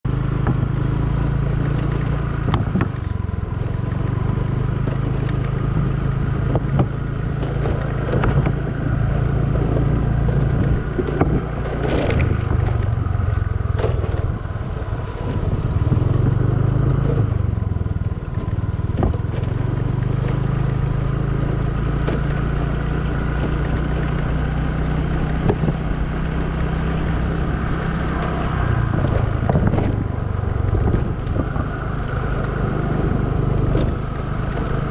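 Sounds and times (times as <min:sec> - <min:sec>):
scooter engine running: 0:00.1 - 0:34.9.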